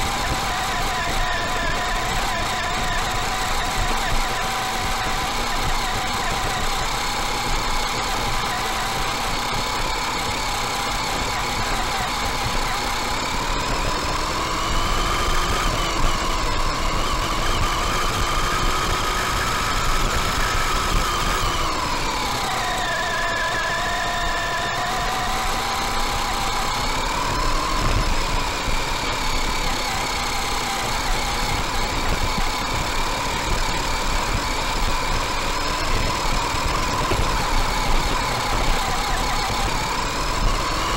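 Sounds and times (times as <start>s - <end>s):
electric motor and gears whining: 0.0s - 40.9s.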